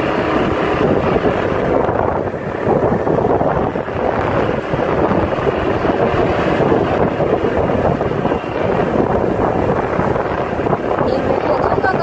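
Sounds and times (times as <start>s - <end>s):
motorbike riding noise: 0.0s - 12.0s
wind buffeting microphone: 0.0s - 12.0s.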